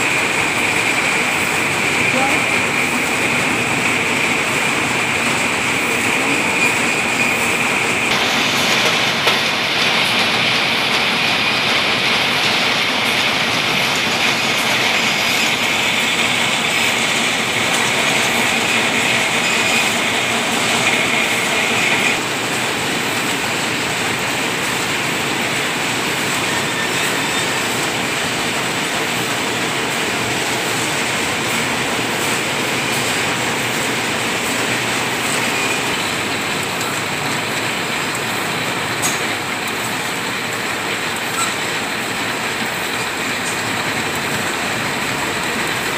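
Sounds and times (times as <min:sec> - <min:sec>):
reeling machine clatter: 0:00.0 - 0:45.9.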